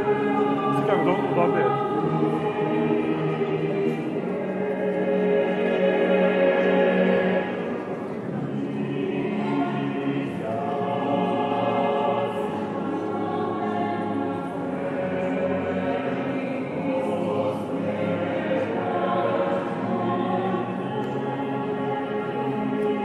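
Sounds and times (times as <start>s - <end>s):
choir singing a cappella: 0.0s - 23.0s.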